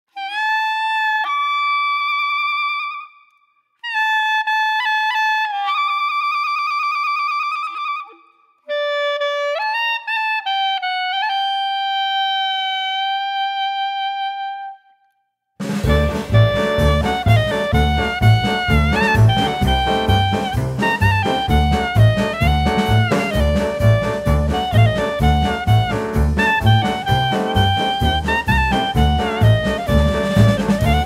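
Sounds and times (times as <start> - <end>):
solo wind instrument melody: 0.1 - 31.0.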